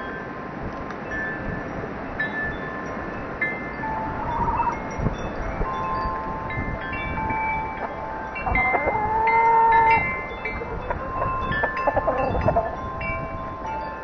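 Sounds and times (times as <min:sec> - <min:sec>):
wind chimes ringing: 0:00.0 - 0:14.0.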